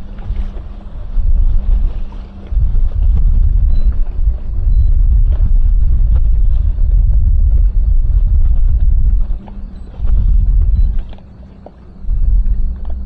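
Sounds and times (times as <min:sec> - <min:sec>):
motorboat engine hum: 0:00.0 - 0:13.0
wind rumble on microphone: 0:00.0 - 0:13.0.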